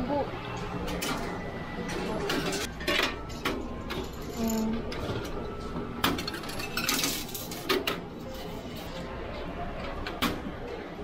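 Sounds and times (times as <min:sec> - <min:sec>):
station background noise: 0:00.0 - 0:11.0.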